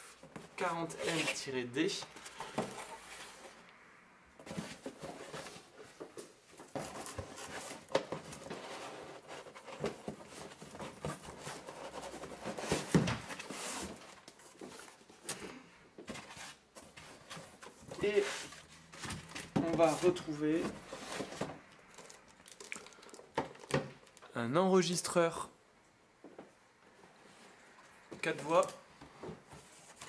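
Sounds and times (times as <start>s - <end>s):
cardboard rustling: 0.0s - 3.6s, 4.4s - 15.3s, 16.0s - 24.2s, 28.1s - 30.0s.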